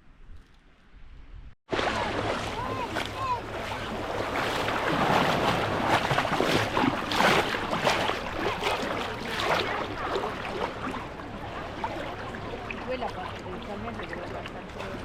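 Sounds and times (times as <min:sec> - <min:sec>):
sea waves washing on beach: 0:01.7 - 0:15.0.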